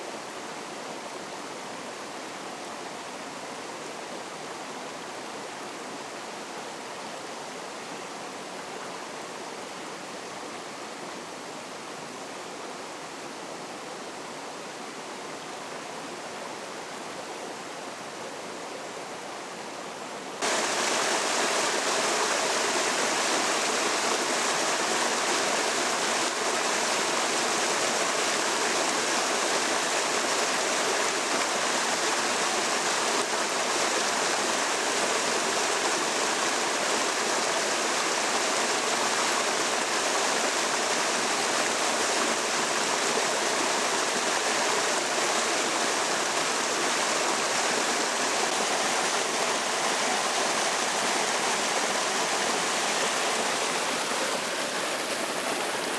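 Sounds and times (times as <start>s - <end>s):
fast-flowing water rushing: 0.0s - 55.9s.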